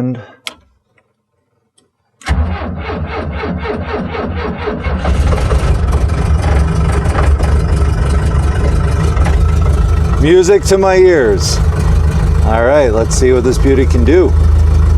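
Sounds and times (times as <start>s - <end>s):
starter motor cranking: 2.2s - 14.9s
engine running: 2.3s - 14.9s.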